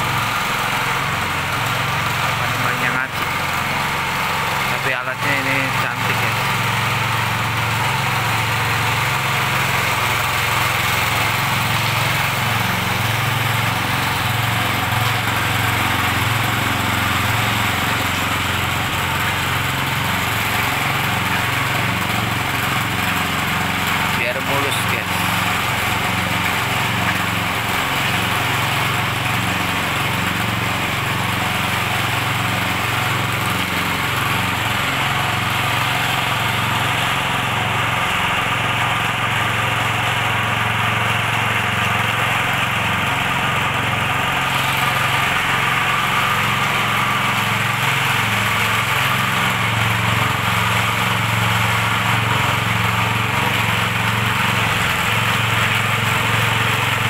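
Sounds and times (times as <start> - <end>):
small petrol engine running: 0.0 - 57.0.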